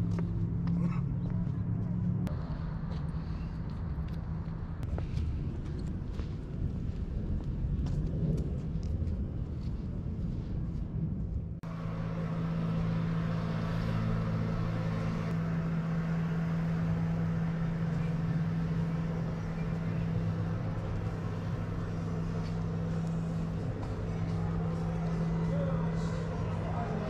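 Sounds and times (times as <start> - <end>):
low rumbling noise: 0.0 - 27.0
steady mechanical hum: 0.0 - 27.0.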